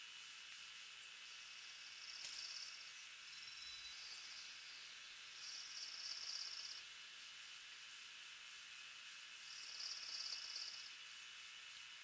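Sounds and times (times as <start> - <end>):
camcorder hiss: 0.0 - 12.0.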